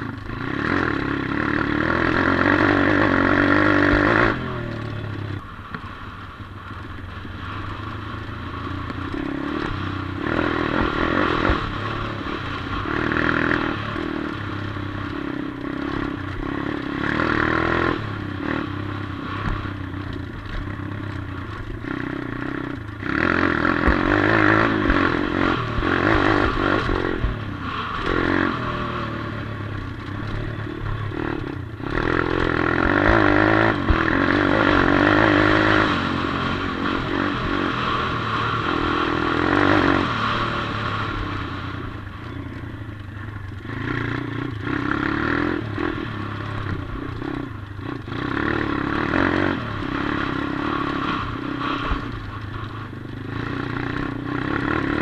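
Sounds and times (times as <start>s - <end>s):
bike rattling over rough dirt: 0.0s - 55.0s
dirt bike engine revving: 0.0s - 55.0s.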